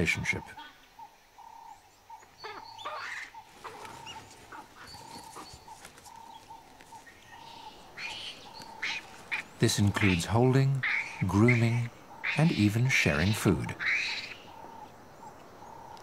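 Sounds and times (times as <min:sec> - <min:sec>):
baboons calling: 0:00.0 - 0:16.0.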